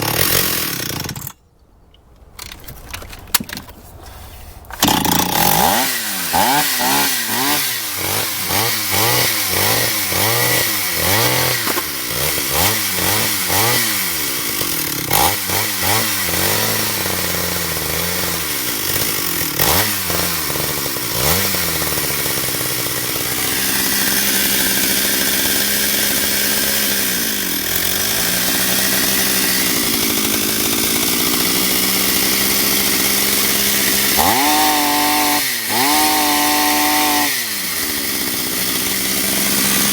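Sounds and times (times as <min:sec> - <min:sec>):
chainsaw revving: 0:00.0 - 0:01.4, 0:04.8 - 0:39.9.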